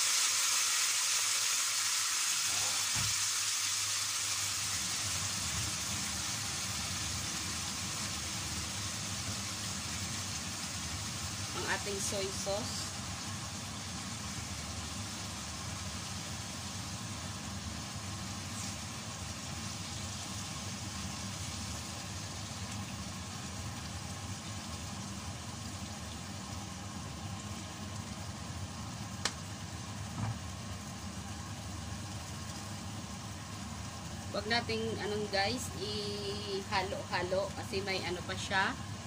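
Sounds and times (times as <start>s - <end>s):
chicken sizzling in a pot: 0.0s - 39.0s.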